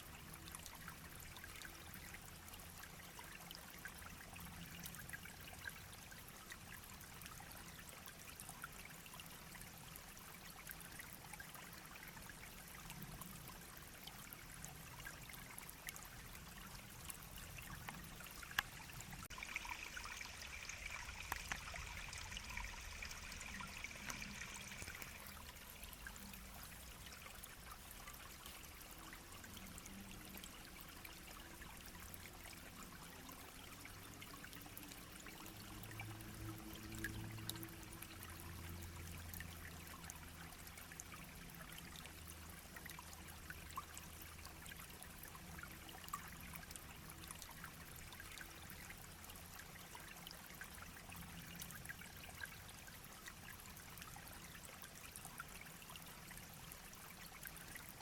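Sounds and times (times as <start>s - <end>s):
brook babbling: 0.0s - 58.0s.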